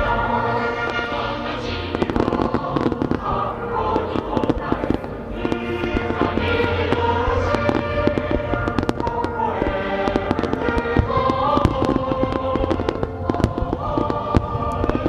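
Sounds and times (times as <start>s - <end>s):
music with long held notes: 0.0s - 15.0s
fireworks popping and banging: 0.8s - 15.0s.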